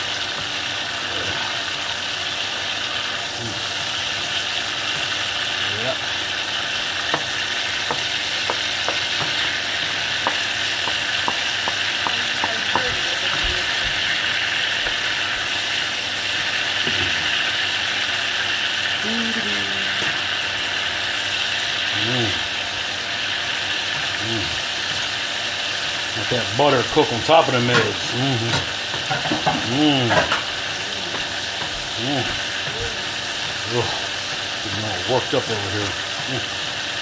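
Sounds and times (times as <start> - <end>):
eggs sizzling in butter: 0.0 - 37.0.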